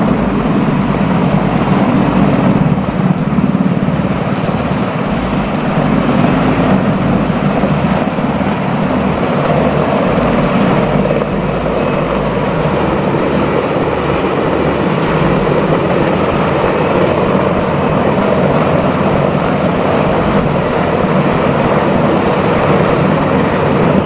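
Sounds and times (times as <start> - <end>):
helicopter rotors and engines: 0.0 - 24.0.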